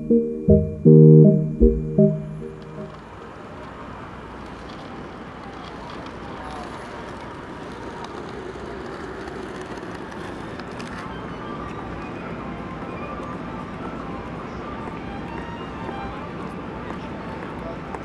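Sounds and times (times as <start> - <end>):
traffic: 2.9 - 18.0.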